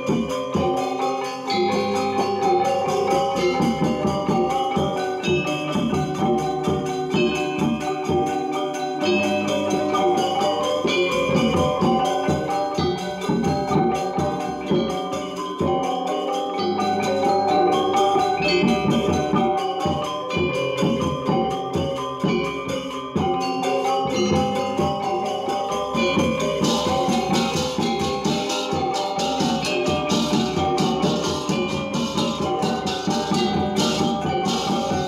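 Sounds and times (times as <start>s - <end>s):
gamelan ensemble playing: 0.0s - 35.0s.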